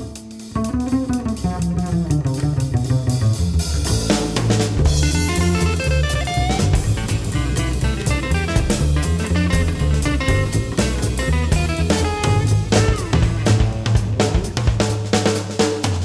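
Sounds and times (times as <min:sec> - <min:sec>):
plucked guitar: 0:00.0 - 0:14.8
bass line: 0:00.0 - 0:16.0
drum kit beat: 0:00.0 - 0:16.0.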